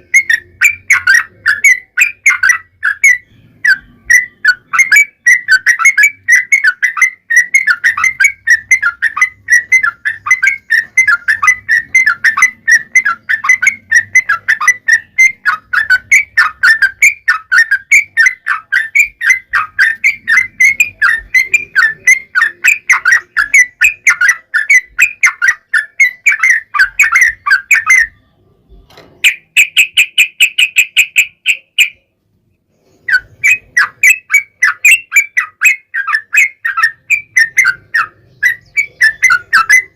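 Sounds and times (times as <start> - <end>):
bulbul singing chattering notes: 0.0 - 28.2, 29.2 - 32.1, 33.0 - 39.9.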